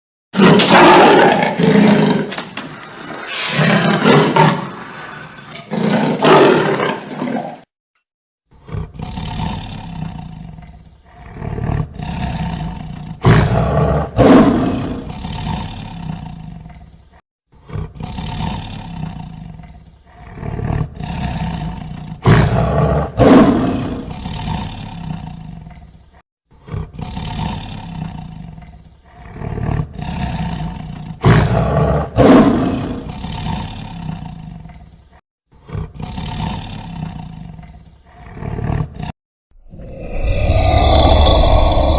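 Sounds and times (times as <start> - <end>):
lion roaring and grunting: 0.4 - 7.7, 8.6 - 17.0, 17.6 - 25.9, 26.6 - 34.9, 35.6 - 41.9.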